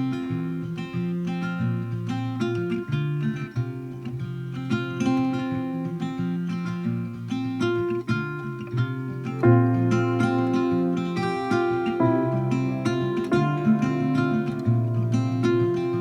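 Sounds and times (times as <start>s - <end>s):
acoustic guitar picking: 0.0s - 16.0s.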